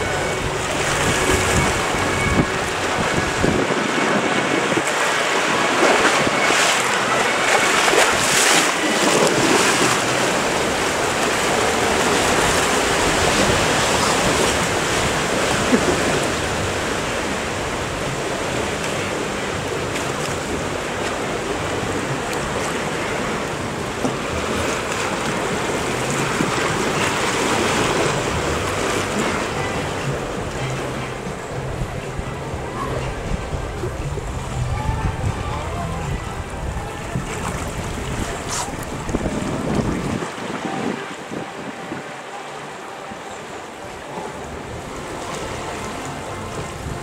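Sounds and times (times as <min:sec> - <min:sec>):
wind buffeting microphone: 0:00.0 - 0:42.2
rushing churning water: 0:00.0 - 0:47.0.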